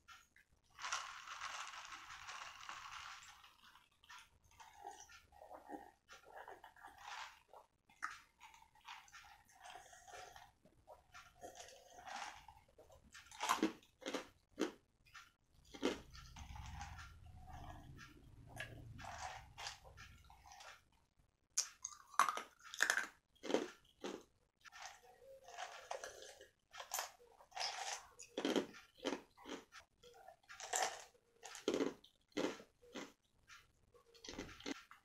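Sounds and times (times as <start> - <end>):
person chewing crispy food: 0.6 - 14.8, 15.6 - 20.8, 21.6 - 33.3, 34.0 - 35.0.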